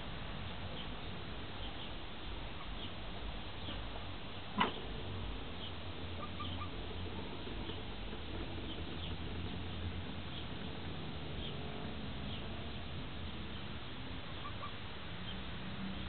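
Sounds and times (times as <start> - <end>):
steady low hum: 0.0 - 16.0
chickens peeping: 1.6 - 3.0, 3.6 - 15.4.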